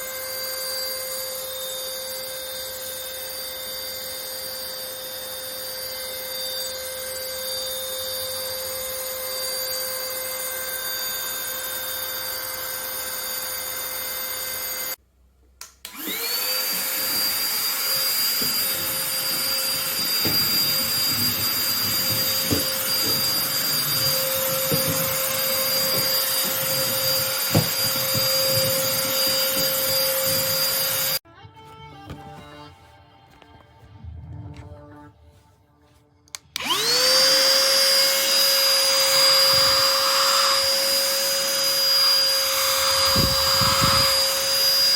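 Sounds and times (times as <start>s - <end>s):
stick vacuum cleaner whining: 0.0s - 15.0s, 15.8s - 33.9s, 35.9s - 44.9s.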